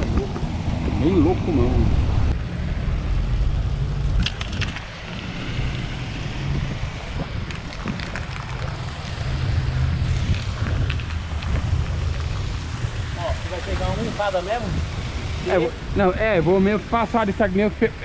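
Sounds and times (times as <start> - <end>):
wind buffeting microphone: 0.0 - 2.4, 3.0 - 18.0.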